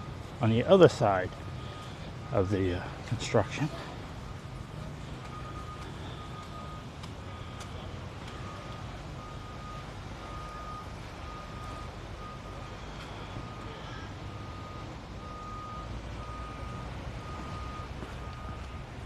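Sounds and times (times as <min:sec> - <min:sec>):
vehicle backup alarm beeping: 0:00.0 - 0:19.0.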